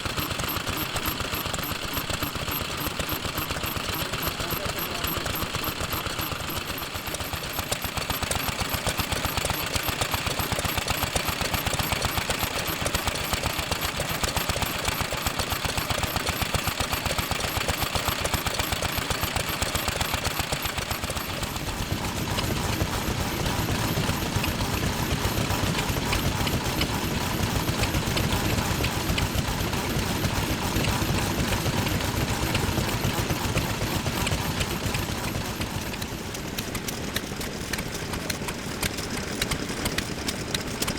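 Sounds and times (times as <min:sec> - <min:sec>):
stationary engines chattering: 0:00.0 - 0:40.9.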